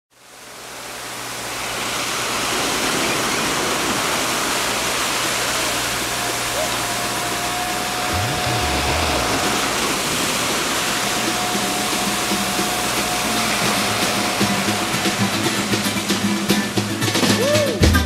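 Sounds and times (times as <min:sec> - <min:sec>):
sea surf washing onto beach: 0:00.2 - 0:18.0.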